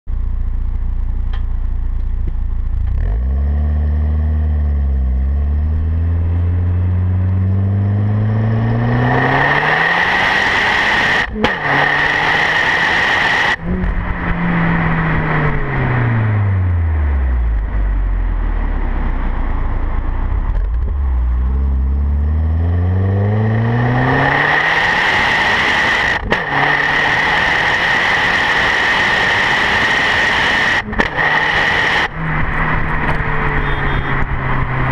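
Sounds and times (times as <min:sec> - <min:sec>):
car exhaust accelerating: 0:00.1 - 0:34.9
wind and road noise: 0:00.1 - 0:34.9.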